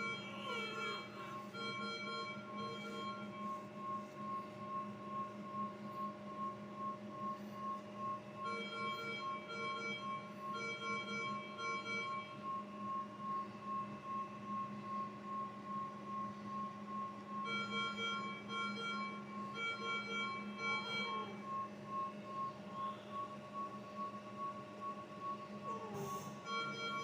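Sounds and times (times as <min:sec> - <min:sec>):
low machine hum: 0:00.0 - 0:27.0
short evenly spaced alarm beeps: 0:00.0 - 0:27.0.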